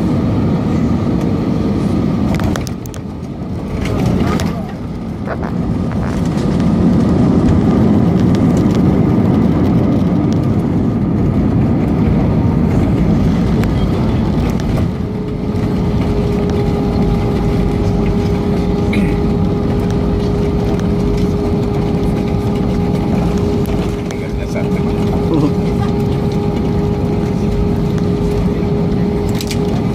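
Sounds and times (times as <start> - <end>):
low rumble of engines and wheels: 0.0 - 29.9
steady hum: 3.4 - 29.9.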